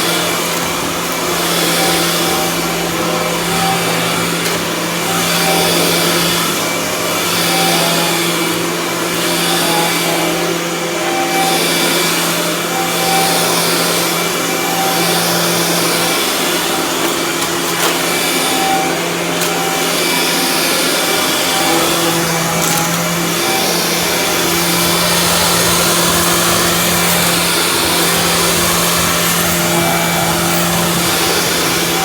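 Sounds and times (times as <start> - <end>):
vacuum cleaner on carpet: 0.0 - 32.0.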